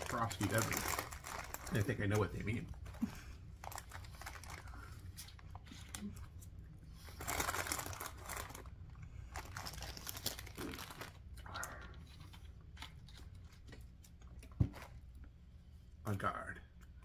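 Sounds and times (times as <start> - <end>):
snack packaging crinkling: 0.0 - 15.0.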